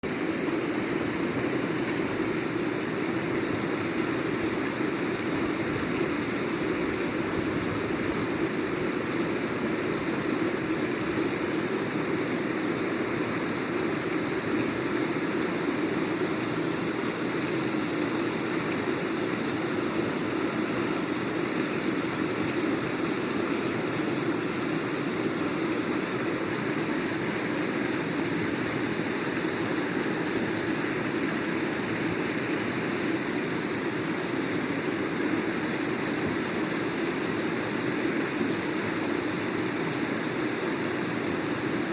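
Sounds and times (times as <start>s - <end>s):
water rushing: 0.0s - 41.9s.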